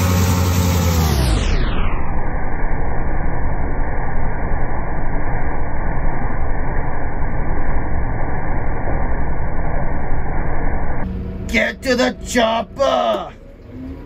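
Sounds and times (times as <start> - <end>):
silage blower running: 0.0 - 10.4, 11.0 - 14.0.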